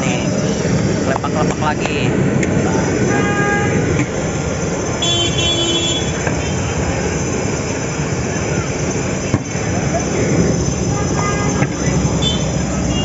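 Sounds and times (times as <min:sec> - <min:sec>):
passing traffic: 0:00.0 - 0:13.0.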